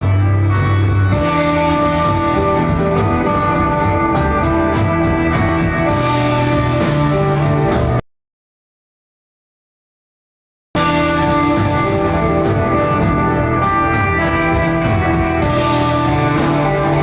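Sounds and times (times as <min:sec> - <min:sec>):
rock band playing: 0:00.0 - 0:08.0, 0:10.8 - 0:17.0.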